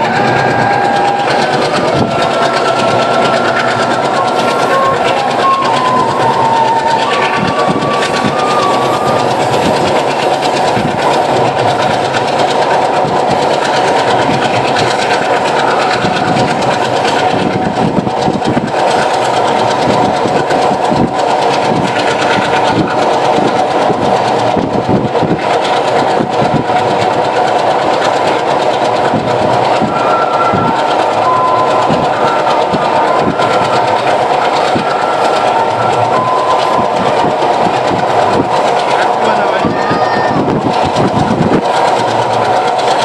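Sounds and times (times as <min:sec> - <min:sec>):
train clattering: 0:00.0 - 0:43.0
train wheels rumbling on track: 0:00.0 - 0:43.0.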